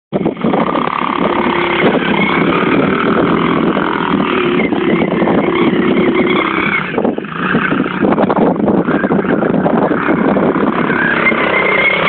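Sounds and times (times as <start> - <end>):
quad bike engine revving: 0.2 - 12.0.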